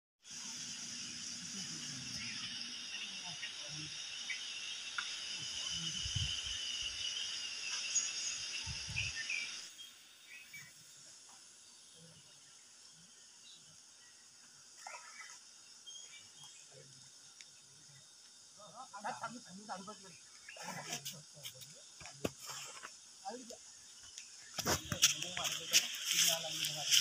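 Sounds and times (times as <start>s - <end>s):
high-pitched insect buzz: 0.2s - 27.0s
faint chirps: 0.3s - 27.0s.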